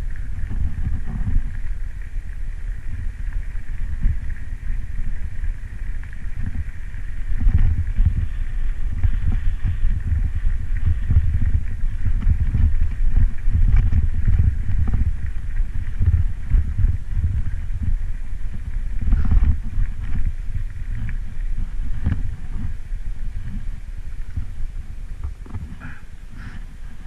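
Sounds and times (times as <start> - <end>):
bike rattling over gravel: 0.0 - 27.0
wind buffeting microphone: 0.0 - 27.0.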